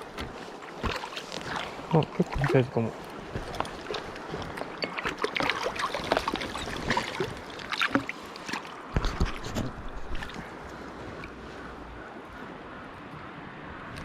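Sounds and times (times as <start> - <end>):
fish splashing water: 0.0 - 11.4
mountain stream rushing: 0.0 - 13.9.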